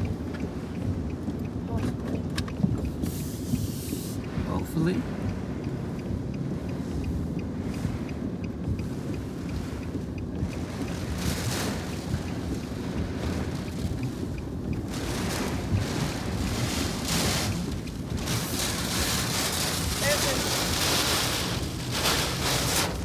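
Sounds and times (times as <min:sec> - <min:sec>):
storm wind buffeting a vehicle: 0:00.0 - 0:23.0
wind noise on microphone: 0:01.9 - 0:23.0.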